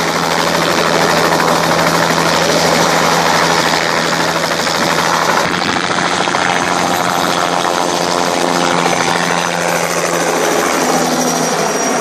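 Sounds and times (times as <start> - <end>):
helicopter engine and rotor running: 0.0 - 12.0.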